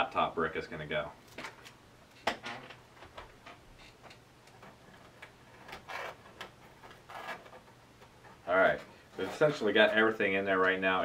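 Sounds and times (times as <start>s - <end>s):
rustling: 1.2s - 10.7s.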